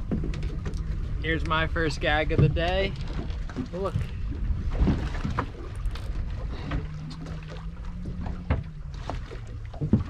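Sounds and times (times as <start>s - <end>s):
low hum: 0.0s - 10.0s
wind and water around boat: 0.0s - 10.0s.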